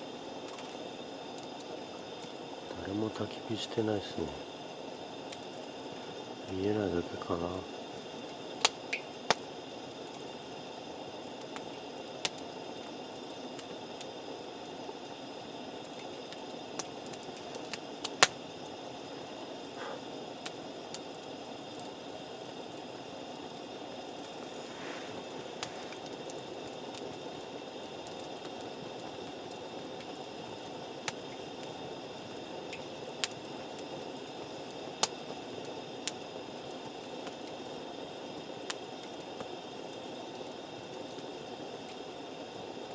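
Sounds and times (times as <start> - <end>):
campfire hissing: 0.0 - 42.9
fire crackles and pops: 0.0 - 42.9.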